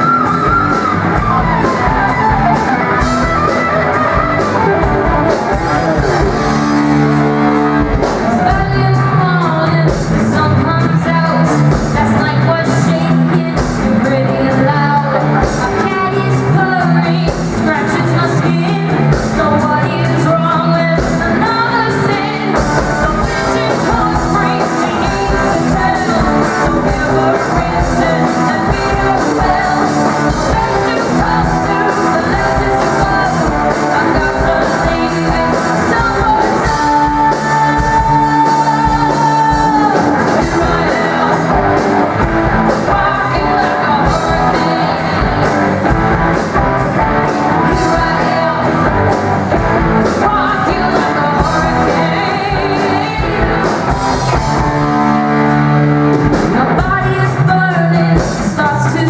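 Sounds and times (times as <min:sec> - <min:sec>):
rock music with singing: 0:00.0 - 0:59.0.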